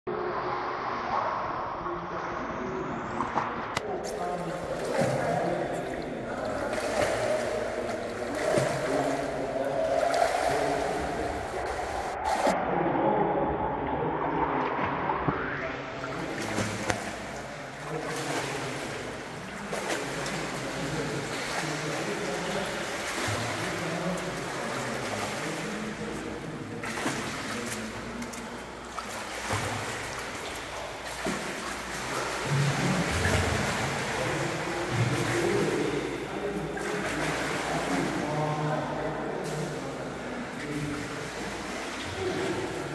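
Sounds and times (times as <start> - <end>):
indoor pool hall noise: 0.1 - 42.9
water splashing from swimming: 0.2 - 12.6, 13.2 - 42.9.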